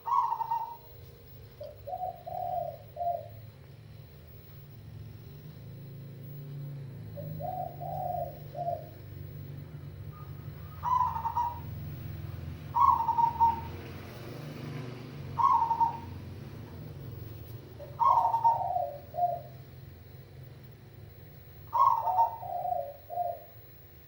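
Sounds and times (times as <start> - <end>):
loud clear dove calls: 0.0 - 20.5, 21.4 - 24.0
dove cooing: 0.0 - 24.0
steady low hum: 0.0 - 24.0.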